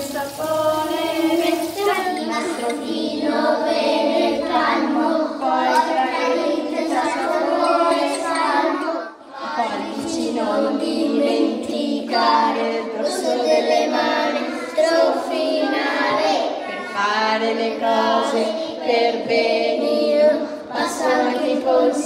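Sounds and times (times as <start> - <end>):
young children singing a rhyme: 0.0 - 22.0.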